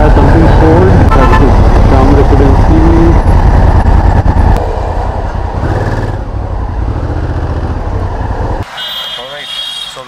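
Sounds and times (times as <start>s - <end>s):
motorcycle engine: 0.0s - 8.6s.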